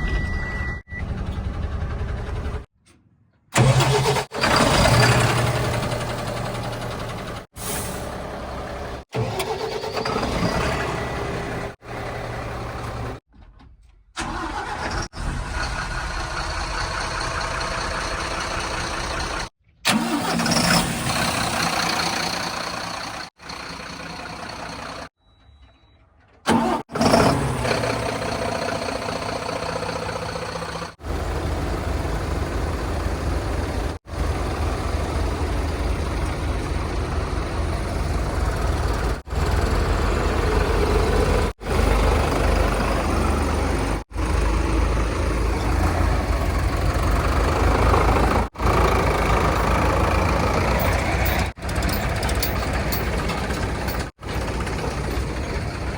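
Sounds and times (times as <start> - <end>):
diesel engines revving: 3.6 - 13.2, 14.2 - 25.1, 26.5 - 55.9.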